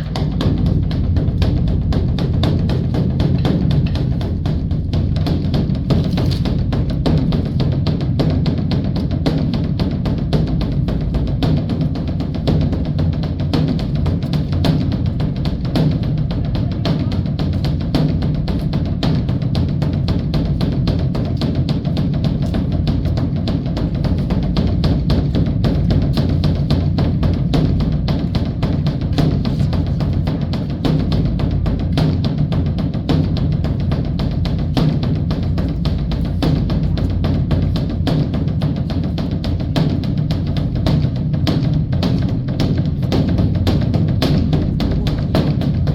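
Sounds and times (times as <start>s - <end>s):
large drum beaten rapidly: 0.0s - 45.9s.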